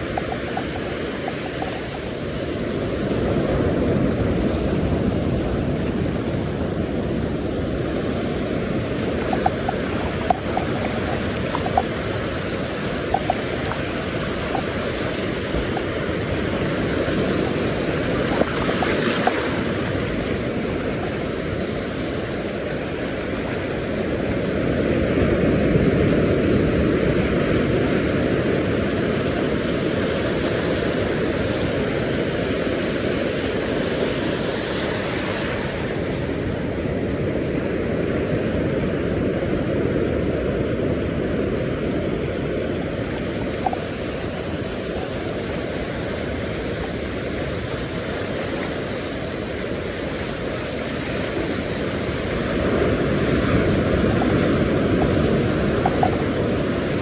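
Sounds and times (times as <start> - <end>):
surf washing on beach: 0.0 - 57.0
wind on microphone: 0.0 - 57.0.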